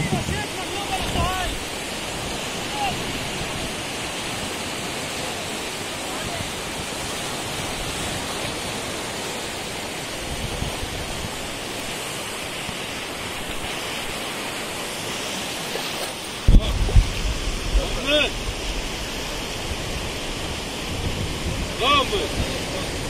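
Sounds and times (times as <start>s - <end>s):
small waves breaking on beach: 0.0s - 23.0s.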